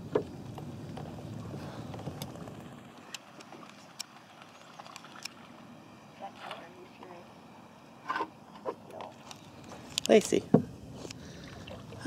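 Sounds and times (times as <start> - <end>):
soft water wash: 0.0 - 12.0.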